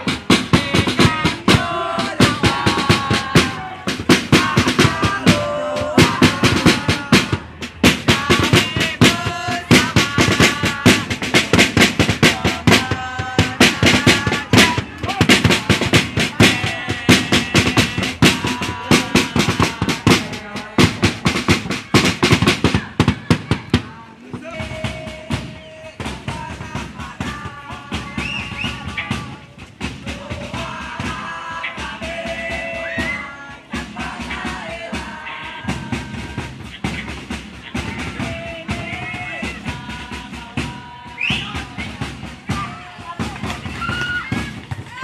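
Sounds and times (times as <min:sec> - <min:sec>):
marching drums: 0:00.0 - 0:45.0
young men chanting: 0:00.0 - 0:45.0.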